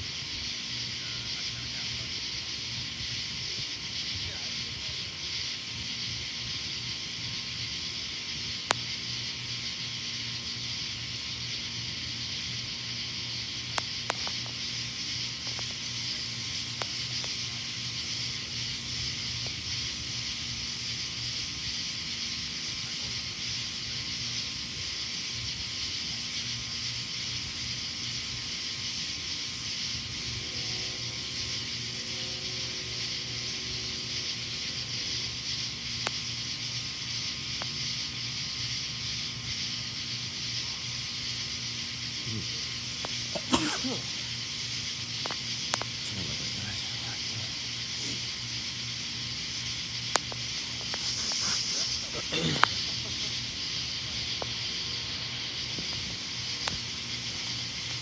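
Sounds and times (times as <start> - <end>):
night ambience hiss: 0.0 - 58.0.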